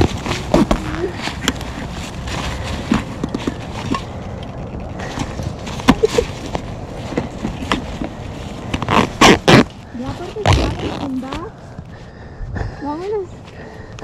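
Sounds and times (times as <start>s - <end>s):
rustling of gloved hands: 0.0s - 12.1s.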